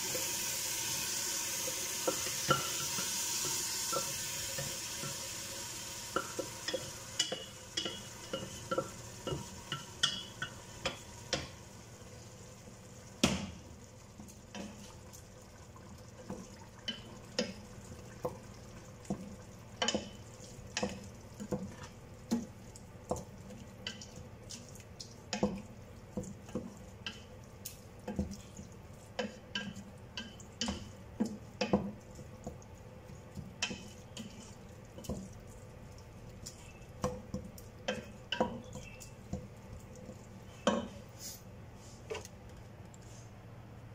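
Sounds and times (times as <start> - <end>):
food sizzling: 0.0 - 41.4.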